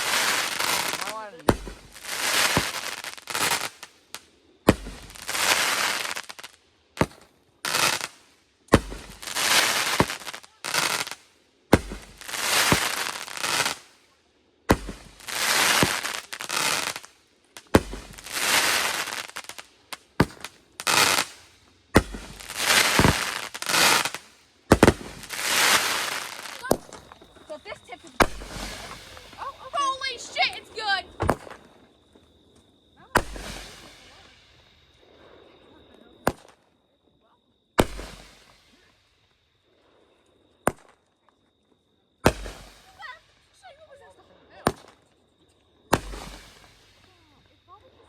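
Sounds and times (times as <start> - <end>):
fireworks bang and crackle: 0.0 - 48.0.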